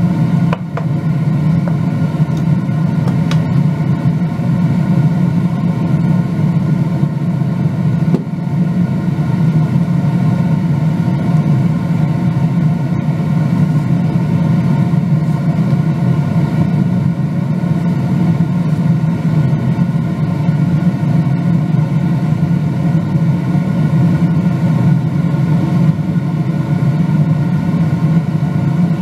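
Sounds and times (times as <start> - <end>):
loud low drone: 0.0 - 29.0.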